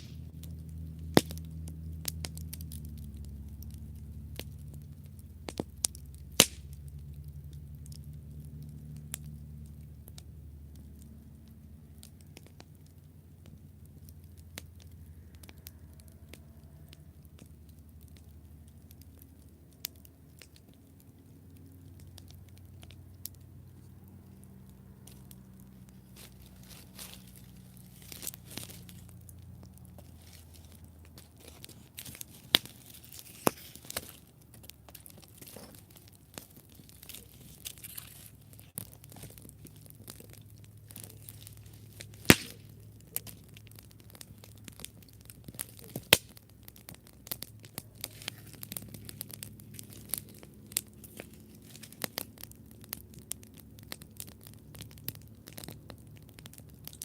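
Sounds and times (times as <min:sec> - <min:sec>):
campfire crackling and popping: 0:00.0 - 0:57.0
loud fire snaps: 0:00.0 - 0:57.0.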